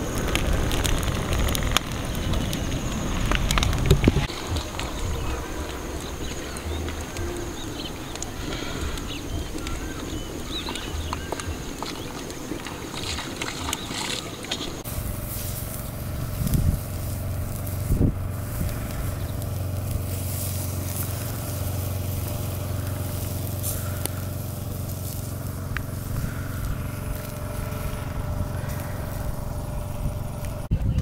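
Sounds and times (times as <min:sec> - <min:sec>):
crackling rustle: 0:00.0 - 0:31.0
low motor hum: 0:00.0 - 0:31.0.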